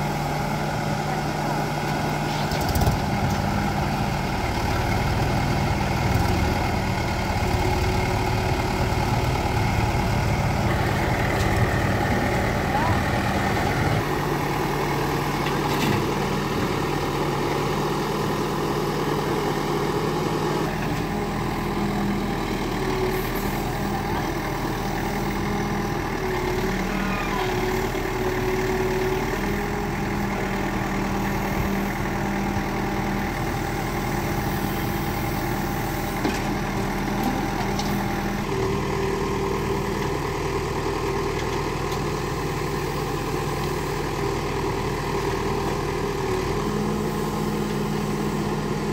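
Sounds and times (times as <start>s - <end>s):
backhoe diesel engine running: 0.0s - 48.9s
tractor engine idling: 0.0s - 48.9s.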